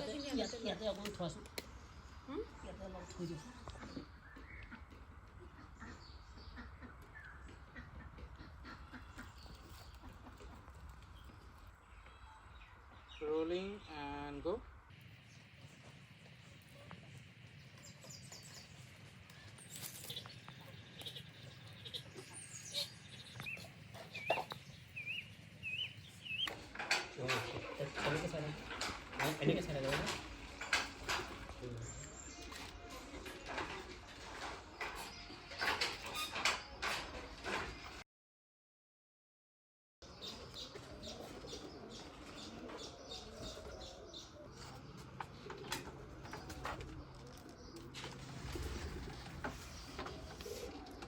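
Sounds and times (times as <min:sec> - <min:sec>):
birds chirping: 0:00.0 - 0:38.0, 0:40.0 - 0:51.0.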